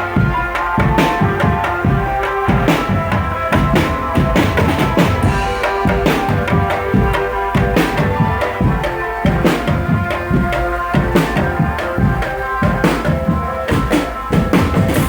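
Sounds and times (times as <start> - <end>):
marching drum band playing: 0.0 - 15.0.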